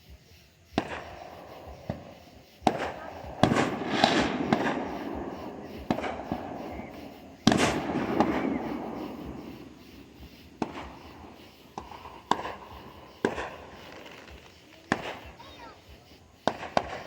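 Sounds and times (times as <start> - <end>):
fireworks bangs: 0.6 - 17.0.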